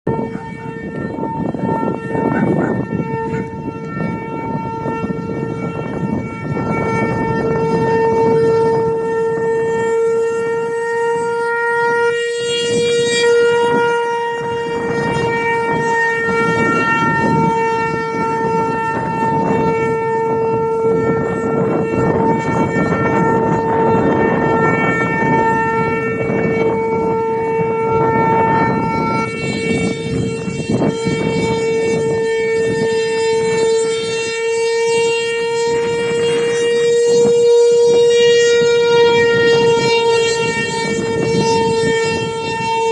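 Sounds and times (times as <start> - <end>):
tornado warning siren: 0.0 - 42.9.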